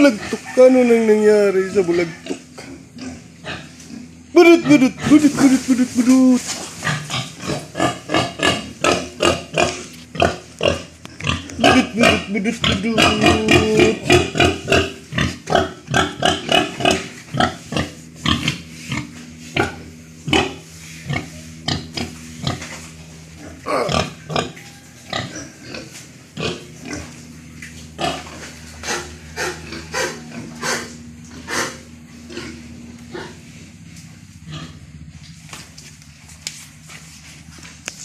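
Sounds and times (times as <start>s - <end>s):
pigs grunting: 0.0s - 35.5s.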